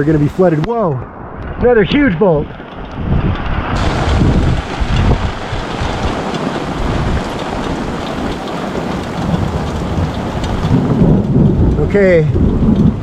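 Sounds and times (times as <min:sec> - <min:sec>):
thunder rumbling: 0:00.0 - 0:13.0
torrential rain pouring: 0:00.0 - 0:13.0.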